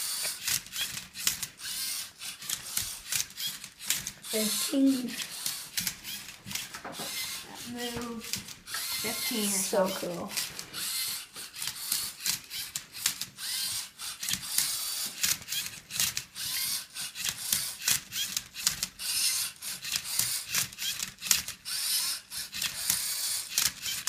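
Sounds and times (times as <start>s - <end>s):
motors whirring: 0.0s - 24.0s.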